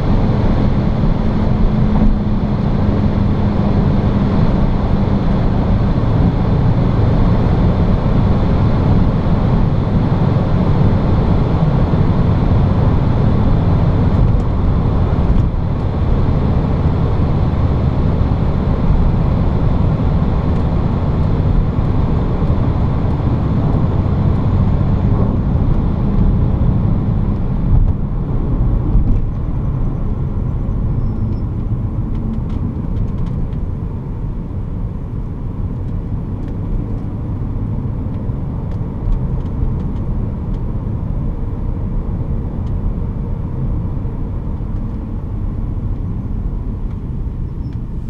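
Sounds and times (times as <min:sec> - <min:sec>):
car cabin road and wind rumble: 0:00.0 - 0:48.0
car engine: 0:00.0 - 0:48.0.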